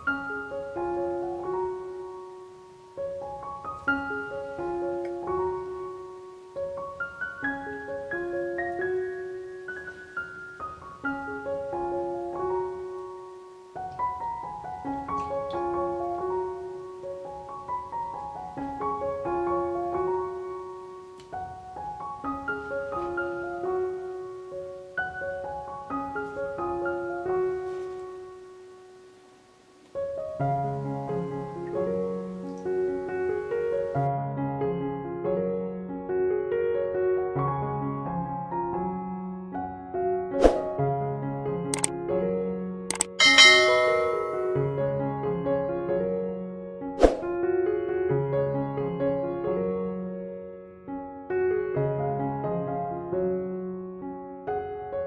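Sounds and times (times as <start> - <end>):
piano melody: 0.0 - 55.0.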